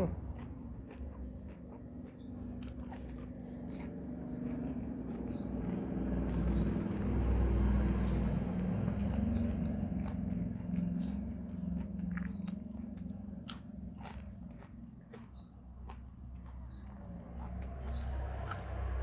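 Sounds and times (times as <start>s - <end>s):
chewing crunchy vegetables: 0.0s - 19.0s
low motor rumble: 3.7s - 19.0s.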